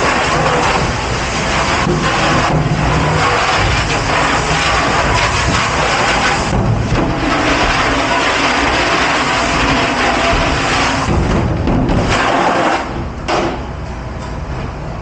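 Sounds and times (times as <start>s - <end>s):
loud machinery noise: 0.0s - 15.0s.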